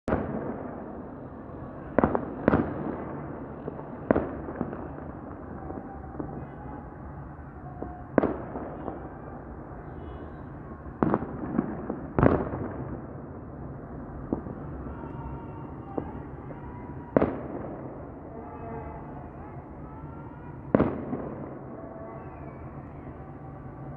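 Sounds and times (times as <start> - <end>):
fireworks bangs: 0.1 - 23.9
steady background noise: 0.1 - 23.9.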